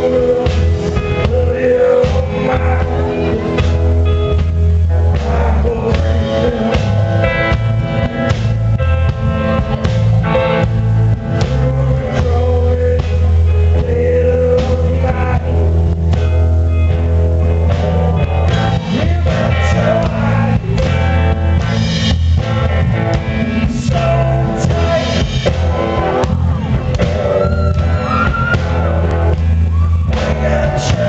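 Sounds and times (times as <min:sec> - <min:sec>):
bass guitar: 0:00.0 - 0:31.0
drums: 0:00.0 - 0:31.0
electric guitar: 0:00.0 - 0:31.0
person singing: 0:00.0 - 0:31.0.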